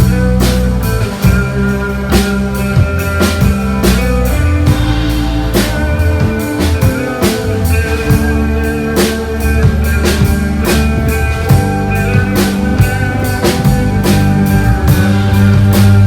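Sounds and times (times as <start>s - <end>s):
instrumental band music: 0.0s - 16.0s.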